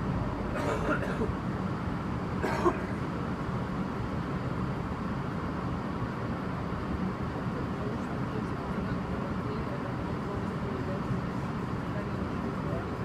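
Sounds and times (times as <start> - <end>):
vehicle low rumble inside cabin: 0.0 - 13.0.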